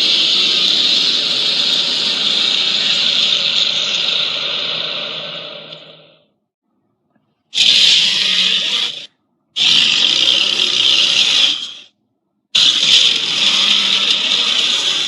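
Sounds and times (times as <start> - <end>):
harsh monster roars: 0.0 - 6.3, 7.6 - 11.9, 12.6 - 15.0.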